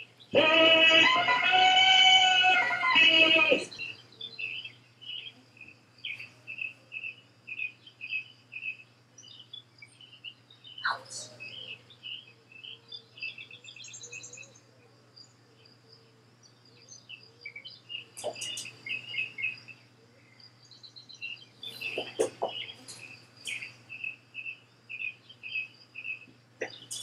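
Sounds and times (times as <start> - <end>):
bird trill: 0.0 - 14.7, 16.7 - 27.0
birds chirping: 0.0 - 27.0
high insect trill: 0.0 - 27.0.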